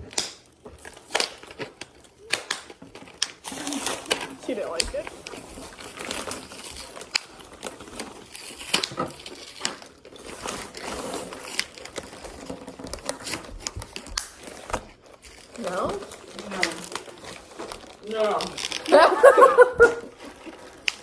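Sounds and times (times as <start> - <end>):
food packaging crinkling: 0.0 - 21.0.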